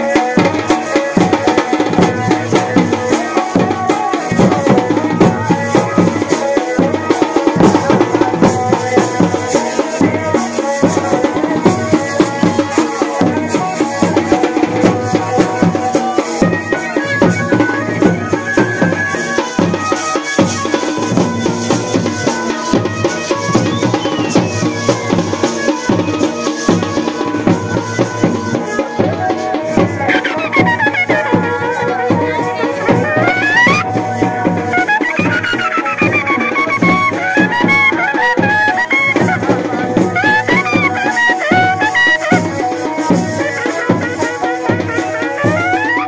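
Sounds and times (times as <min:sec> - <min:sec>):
rapid drumming: 0:00.0 - 0:46.0
rattling percussion: 0:00.0 - 0:46.0
sustained melody: 0:00.1 - 0:43.2.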